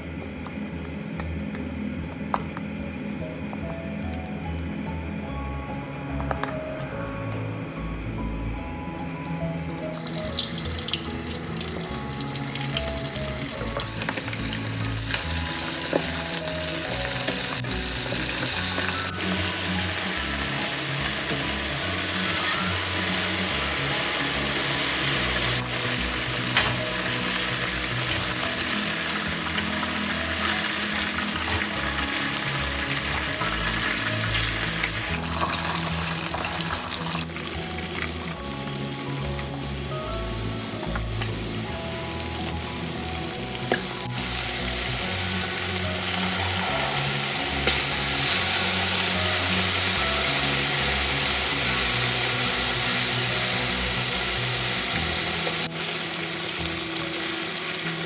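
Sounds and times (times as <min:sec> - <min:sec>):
chicken deep-frying in oil: 0:09.8 - 0:58.0.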